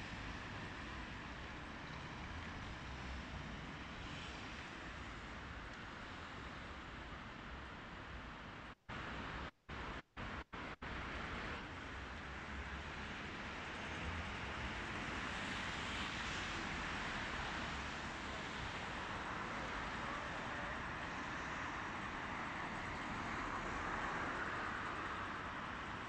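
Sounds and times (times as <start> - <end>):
city traffic hum: 0.0 - 26.0.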